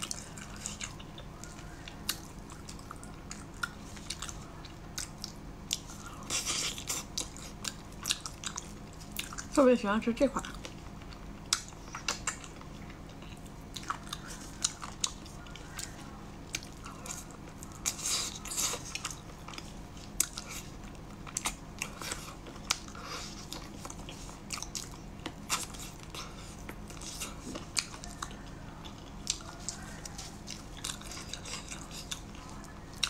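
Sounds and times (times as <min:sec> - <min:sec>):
crunchy chewing: 0:00.0 - 0:09.6, 0:10.4 - 0:33.0.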